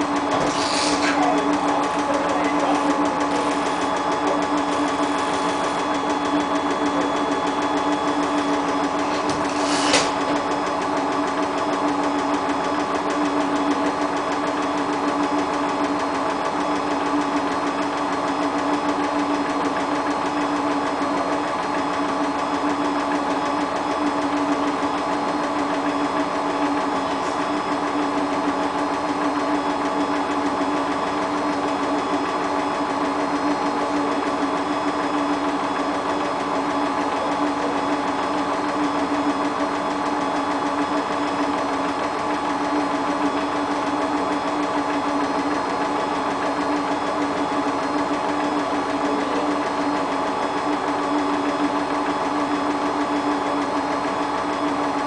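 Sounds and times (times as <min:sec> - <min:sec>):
washing machine hum: 0:00.0 - 0:55.0.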